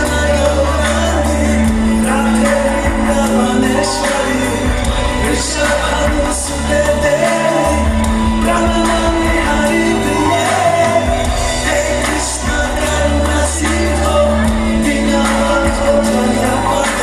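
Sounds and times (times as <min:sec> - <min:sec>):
bass line: 0:00.0 - 0:17.0
live band playing: 0:00.0 - 0:17.0
man singing into microphone: 0:00.0 - 0:17.0.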